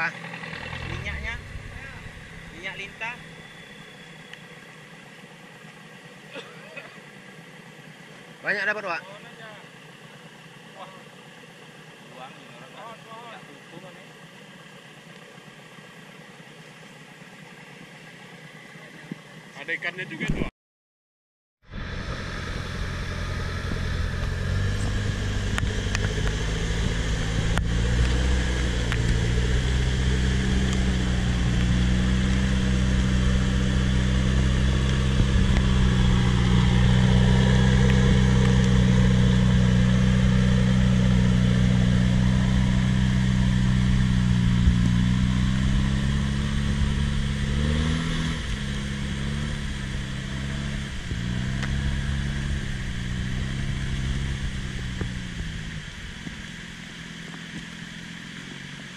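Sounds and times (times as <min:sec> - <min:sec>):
truck engine running under load: 0:00.0 - 0:19.6, 0:21.6 - 0:58.9.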